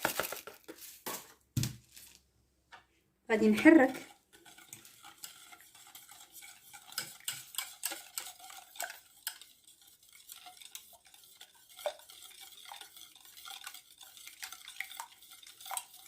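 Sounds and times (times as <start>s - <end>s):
utensil stirring in a saucepan: 0.0s - 1.3s, 3.3s - 16.0s.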